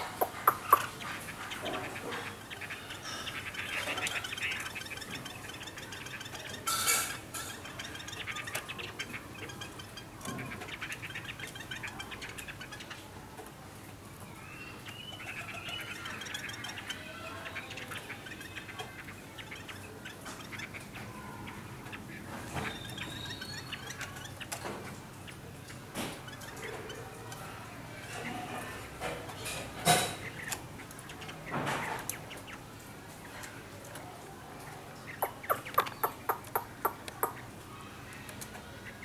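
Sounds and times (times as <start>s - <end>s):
bird chirping: 0.0s - 13.2s, 14.2s - 33.6s, 34.6s - 37.8s.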